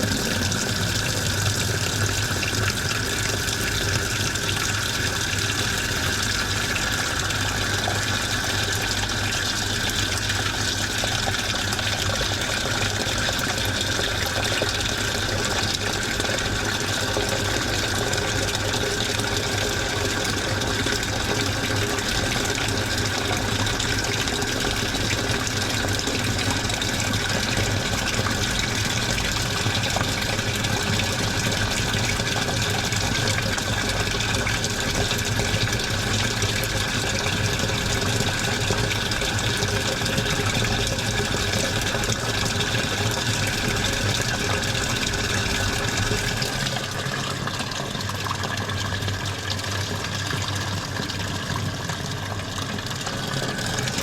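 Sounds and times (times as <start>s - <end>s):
washing machine low hum: 0.0s - 54.0s
water pouring into drum: 0.0s - 54.0s.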